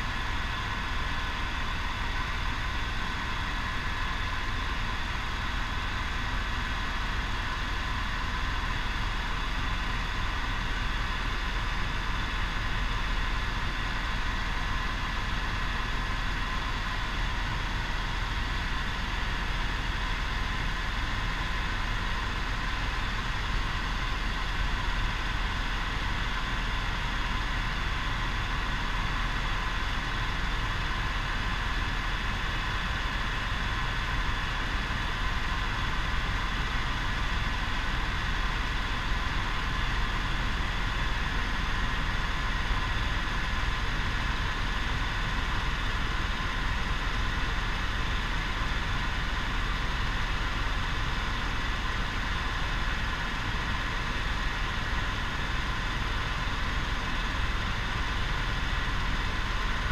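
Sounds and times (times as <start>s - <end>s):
helicopter rotor and engine rumble: 0.0s - 59.9s.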